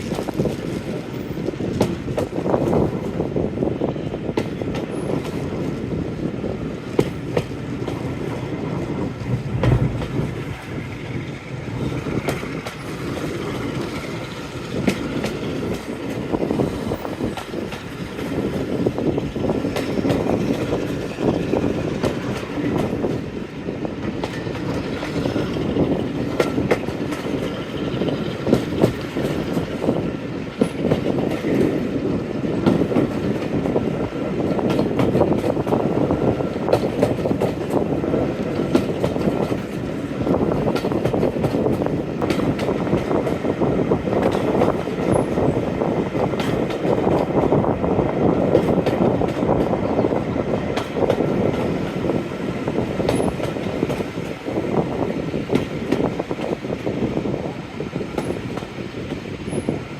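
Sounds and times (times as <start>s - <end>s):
train running rumble: 0.0s - 59.9s
wheels clicking over rail joints: 0.0s - 59.9s.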